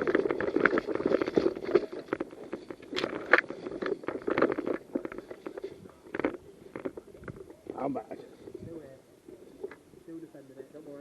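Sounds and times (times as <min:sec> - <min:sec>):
clothing rustling on microphone: 0:00.0 - 0:10.0.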